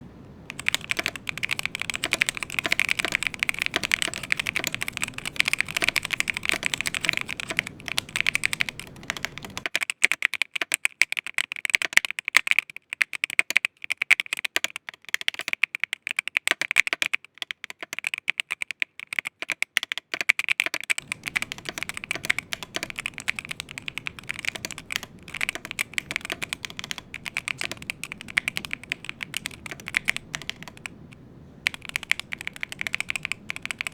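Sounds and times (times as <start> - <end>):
fast typing on keyboard: 0.4 - 33.9.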